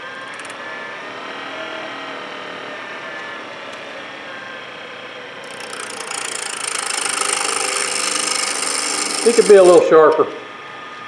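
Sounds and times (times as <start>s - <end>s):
tool scraping spinning wood: 0.0s - 10.5s
woodturning lathe running: 0.0s - 11.0s.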